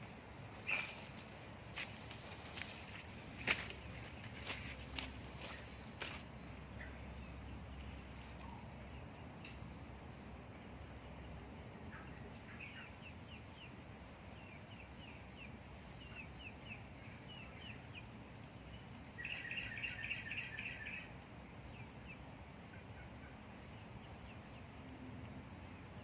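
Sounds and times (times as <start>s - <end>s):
bird chirping: 0.0s - 1.3s, 2.6s - 9.7s, 11.0s - 24.8s.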